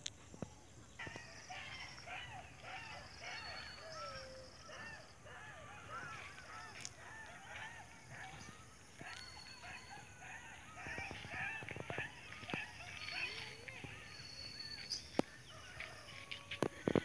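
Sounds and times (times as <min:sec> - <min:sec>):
birds chattering: 0:00.3 - 0:17.0.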